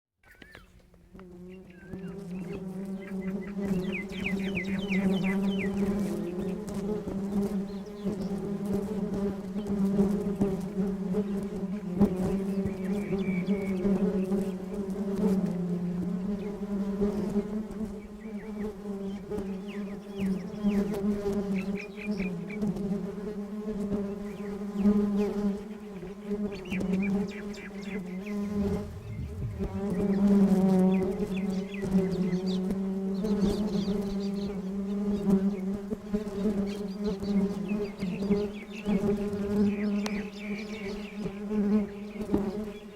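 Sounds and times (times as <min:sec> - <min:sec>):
honeybees buzzing: 0:00.3 - 0:42.9.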